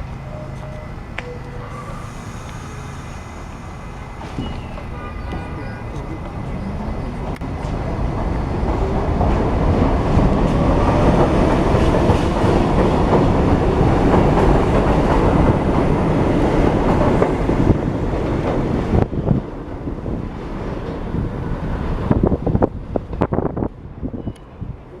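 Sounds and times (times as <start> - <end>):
subway train wheels clattering: 0.0 - 25.0.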